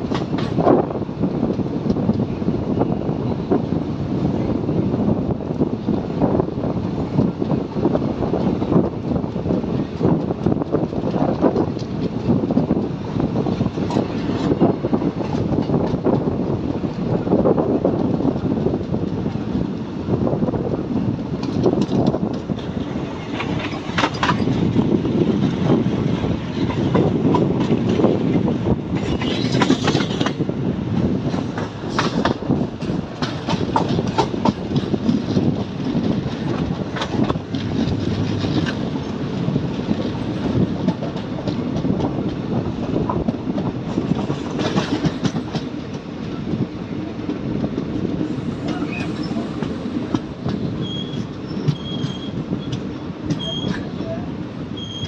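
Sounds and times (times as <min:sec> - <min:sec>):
clickety-clack of rail joints: 0:00.0 - 0:55.0
train wheels rumbling on rails: 0:00.0 - 0:55.0.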